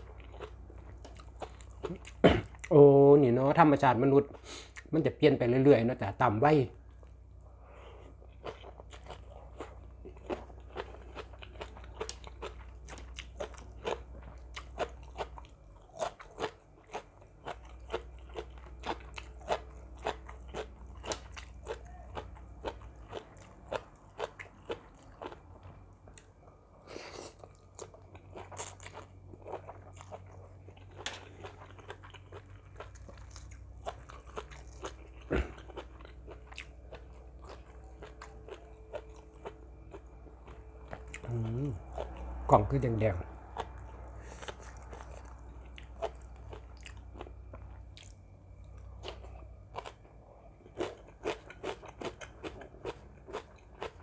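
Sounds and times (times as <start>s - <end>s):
person chewing crunchy food: 0.0s - 2.8s, 6.9s - 54.0s.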